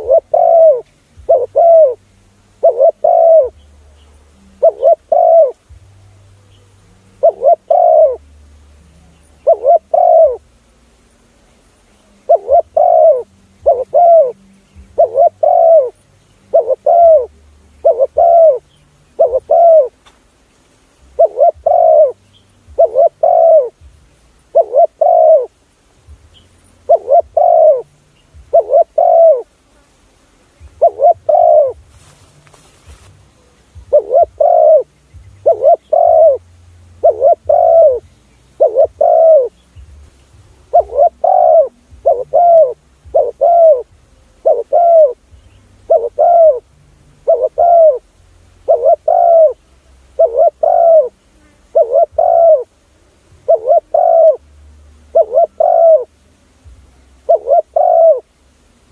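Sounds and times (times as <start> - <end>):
dove cooing: 0.0 - 10.5, 12.0 - 20.1, 21.0 - 25.6, 26.8 - 29.6, 30.6 - 54.5, 55.1 - 58.5.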